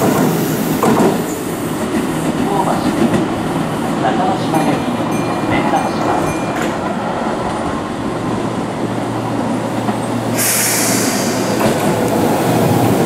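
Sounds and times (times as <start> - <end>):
train wheel rumble: 0.0 - 13.0.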